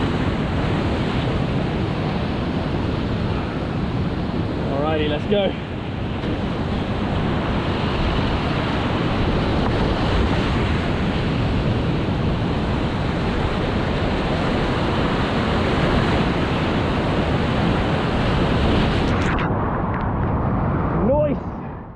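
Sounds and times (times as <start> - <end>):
rushing whitewater: 0.0 - 19.2.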